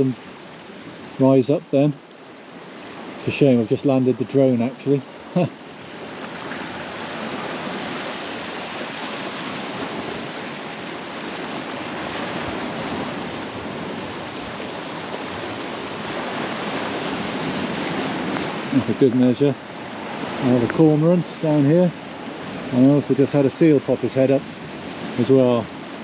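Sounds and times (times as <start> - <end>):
sea waves washing on shore: 0.0 - 26.0.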